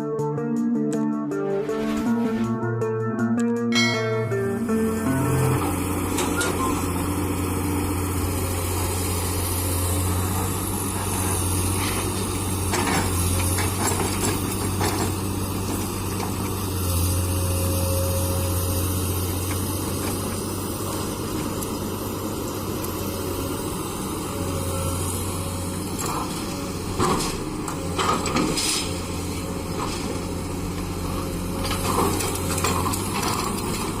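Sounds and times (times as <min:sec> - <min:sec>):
excavator diesel engine running: 0:01.4 - 0:34.0.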